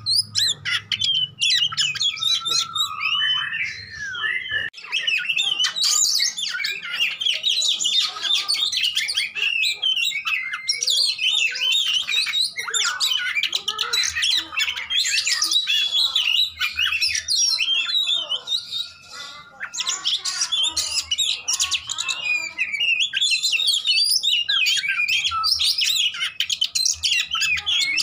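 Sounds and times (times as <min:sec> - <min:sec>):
bird song of chirps and trills: 0:00.0 - 0:28.0.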